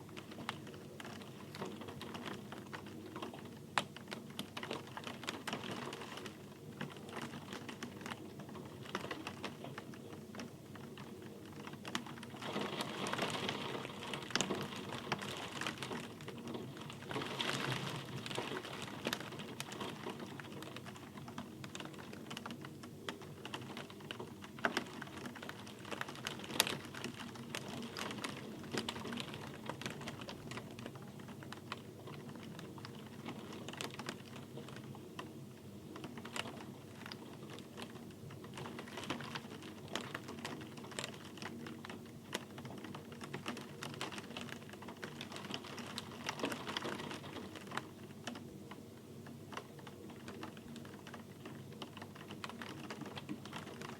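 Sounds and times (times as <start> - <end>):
raindrops tapping: 0.0 - 53.9
steady rain: 0.0 - 53.9.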